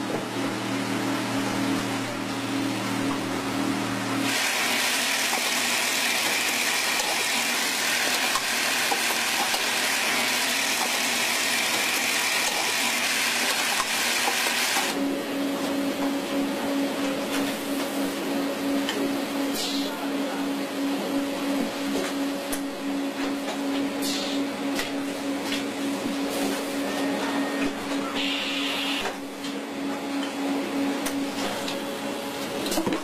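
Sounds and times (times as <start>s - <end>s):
conveyor humming: 0.0s - 33.0s
machinery whirring with high whine: 0.0s - 33.0s.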